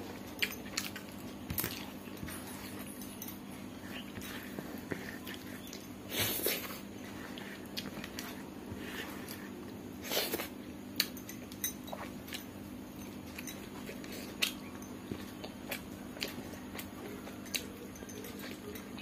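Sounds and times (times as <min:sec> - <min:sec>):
biting and chewing: 0:00.0 - 0:19.0
steady low hum: 0:00.0 - 0:19.0.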